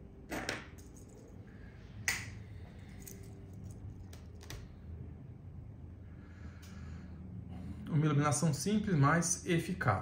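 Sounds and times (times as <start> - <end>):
faint room hum: 0.0 - 10.0.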